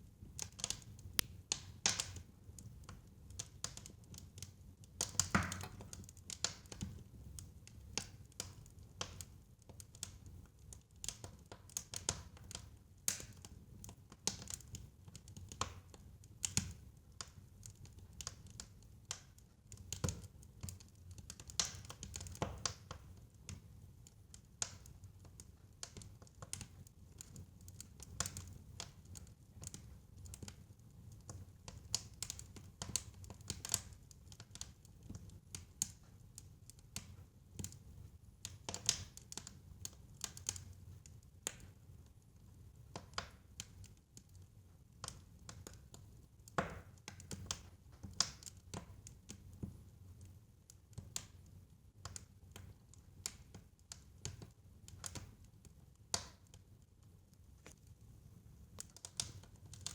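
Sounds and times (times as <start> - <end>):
wood fire crackling and popping: 0.2 - 59.9.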